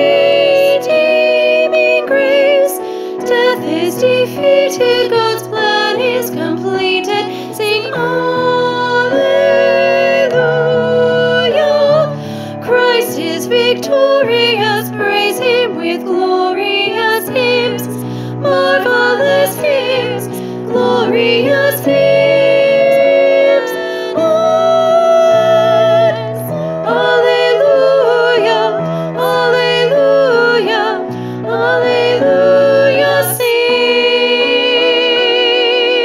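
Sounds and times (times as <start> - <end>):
keyboard accompaniment: 0.0 - 36.0
voices singing a hymn: 0.0 - 36.0.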